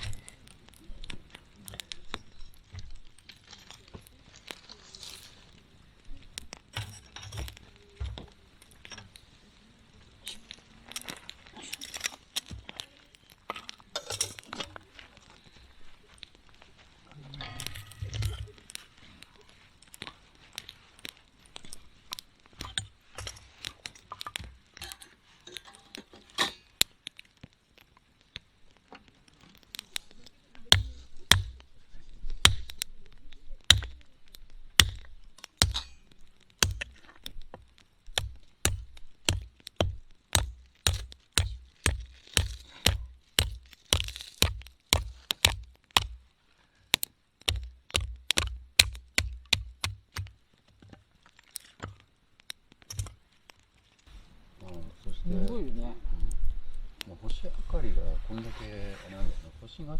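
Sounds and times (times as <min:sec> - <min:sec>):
campfire crackling and popping: 0:00.0 - 0:17.0, 0:17.6 - 0:57.2.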